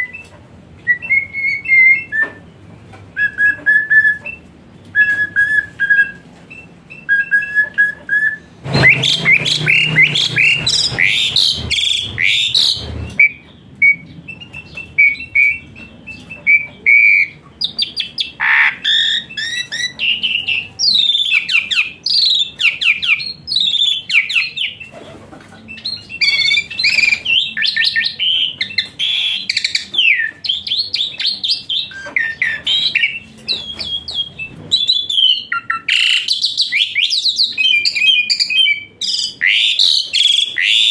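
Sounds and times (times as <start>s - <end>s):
starling singing: 0.0s - 2.6s, 3.2s - 40.9s.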